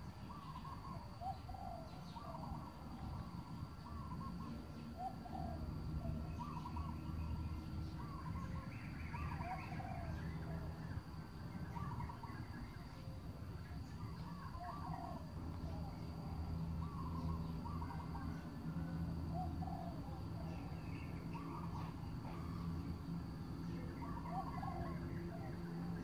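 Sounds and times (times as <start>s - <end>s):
birds warbling: 0.0s - 13.0s, 13.6s - 18.8s, 19.4s - 26.0s
low steady rumble: 0.0s - 26.0s.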